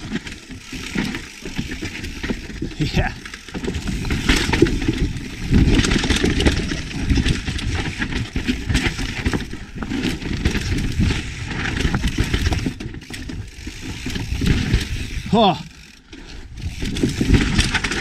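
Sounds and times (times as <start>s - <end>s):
bike clicks and knocks: 0.0s - 18.0s.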